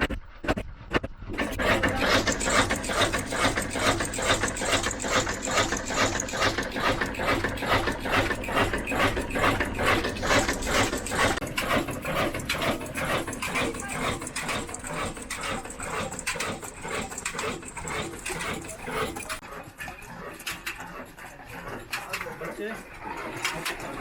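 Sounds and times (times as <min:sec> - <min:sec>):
diesel engine clattering: 0:00.1 - 0:19.4.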